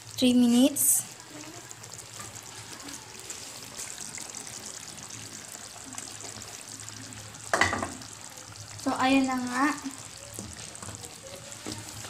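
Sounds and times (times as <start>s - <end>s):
stew bubbling in a wok: 0.0s - 12.0s.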